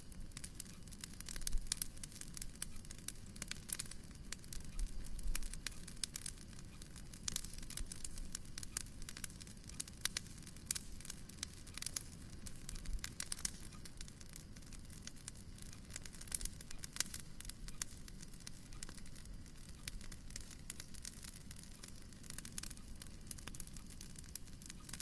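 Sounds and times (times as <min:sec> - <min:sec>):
fire low rumble: 0:00.0 - 0:25.0
wood fire crackling: 0:00.0 - 0:25.0.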